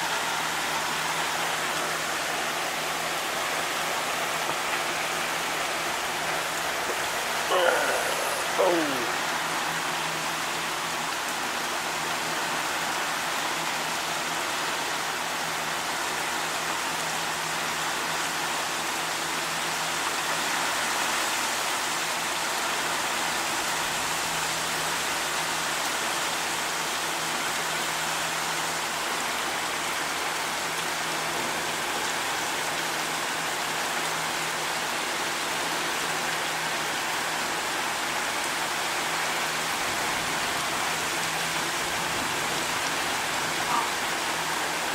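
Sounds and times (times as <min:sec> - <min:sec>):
rain downpour hissing: 0:00.0 - 0:44.9.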